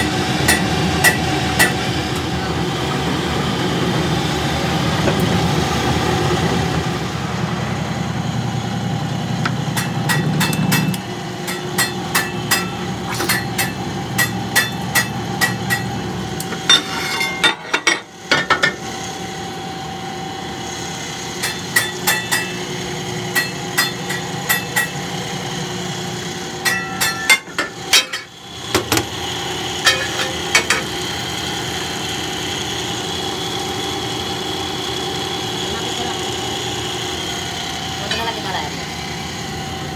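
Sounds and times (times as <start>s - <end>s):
workshop machinery hum: 0.0s - 39.9s.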